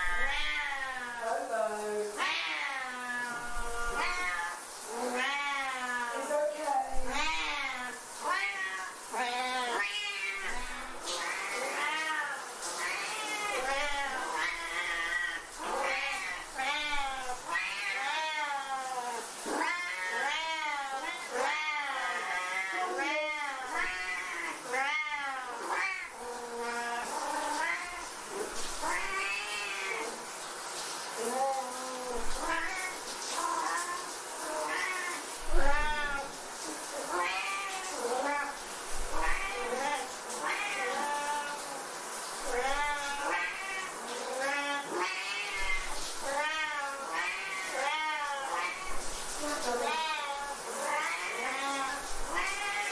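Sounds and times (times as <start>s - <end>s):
cats yowling: 0.0s - 1.4s, 2.1s - 30.2s, 31.2s - 52.9s.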